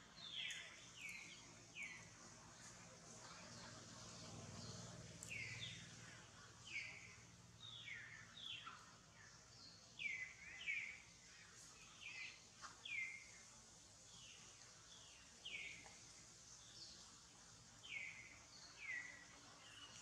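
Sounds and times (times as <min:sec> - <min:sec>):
faint outdoor background: 0:00.0 - 0:20.0.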